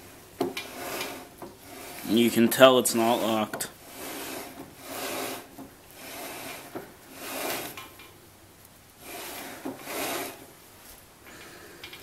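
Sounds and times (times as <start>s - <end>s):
metal rubbing and scraping: 0.0s - 8.2s, 9.0s - 11.0s.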